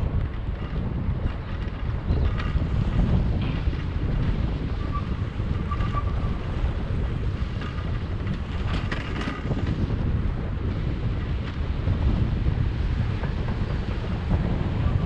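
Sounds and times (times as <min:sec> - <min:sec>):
bicycle riding rumble: 0:00.0 - 0:15.0
wind buffeting microphone: 0:00.0 - 0:15.0.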